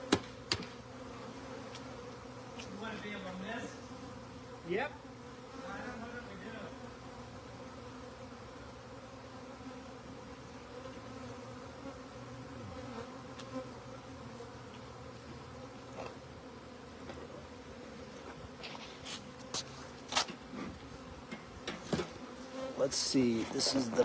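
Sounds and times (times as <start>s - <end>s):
swarm of bees buzzing: 0.0s - 24.0s.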